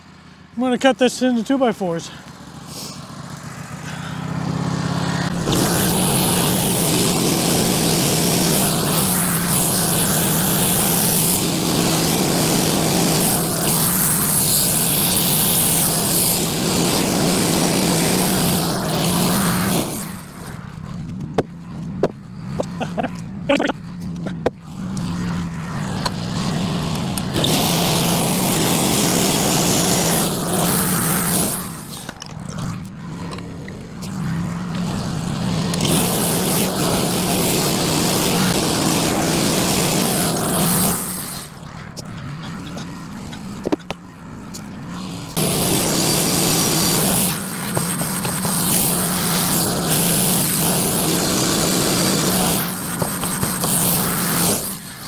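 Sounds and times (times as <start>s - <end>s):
sawmill engine running: 0.0s - 55.0s
band blade sawing wood: 5.1s - 44.0s, 44.6s - 55.0s.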